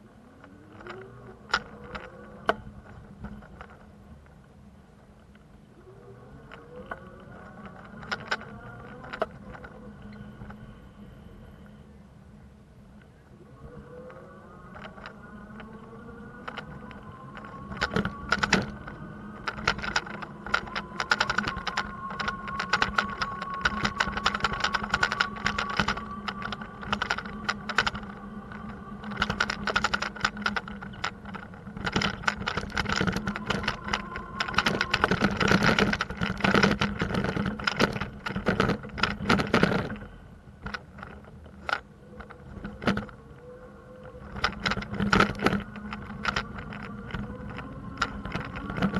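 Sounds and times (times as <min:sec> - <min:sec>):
bicycle rattling on rough pavement: 0:00.0 - 0:04.5, 0:06.4 - 0:10.7, 0:14.6 - 0:48.9
traffic hum: 0:00.0 - 0:48.9.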